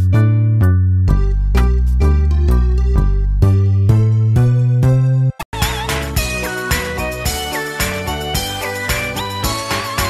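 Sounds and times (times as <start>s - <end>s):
upbeat music with strong bass: 0.0s - 10.0s.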